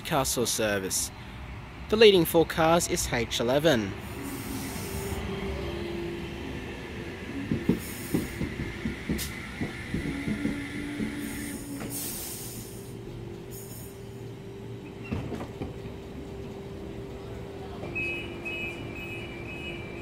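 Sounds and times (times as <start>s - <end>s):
electric train whine: 3.5s - 20.0s.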